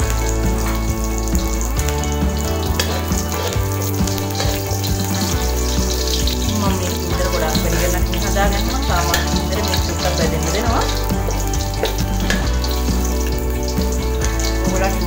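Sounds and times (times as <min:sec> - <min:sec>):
background music with bass line: 0:00.0 - 0:15.0
leaves and garlic sizzling in oil: 0:00.0 - 0:15.0.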